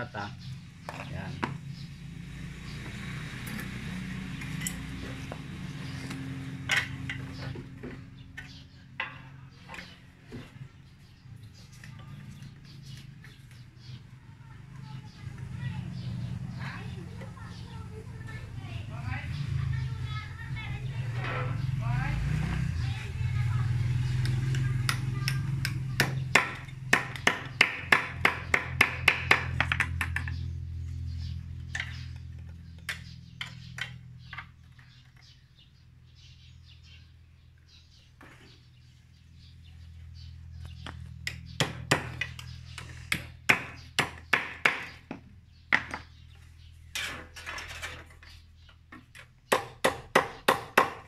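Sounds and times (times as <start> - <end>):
passing vehicle low hum: 0.0 - 27.0, 27.8 - 44.0.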